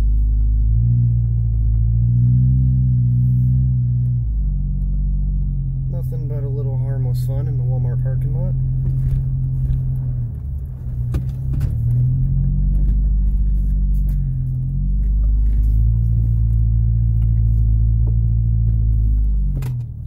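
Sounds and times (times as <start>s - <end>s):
car engine hum from inside cabin: 0.0s - 20.0s.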